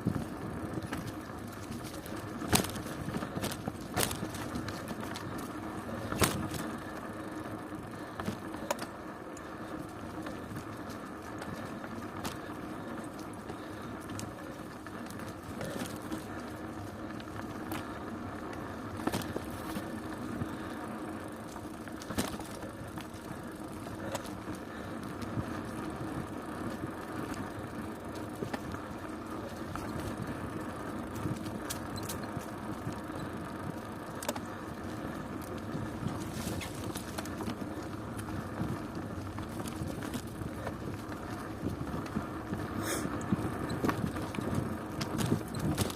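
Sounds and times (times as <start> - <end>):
bicycle clicks and rattles: 0.0 - 45.9
bicycle tyres rolling: 0.0 - 45.9.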